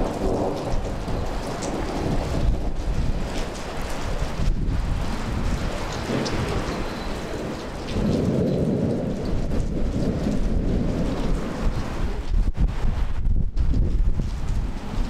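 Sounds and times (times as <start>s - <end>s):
low rumble of thunder: 0.0s - 15.0s
wind buffeting microphone: 0.0s - 15.0s.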